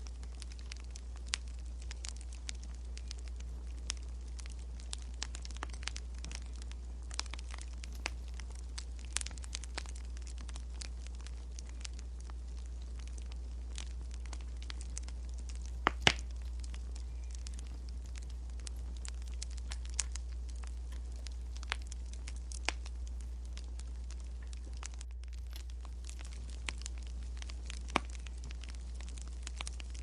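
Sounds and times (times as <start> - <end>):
steady low hum: 0.0 - 30.0
wood fire crackling: 0.0 - 30.0.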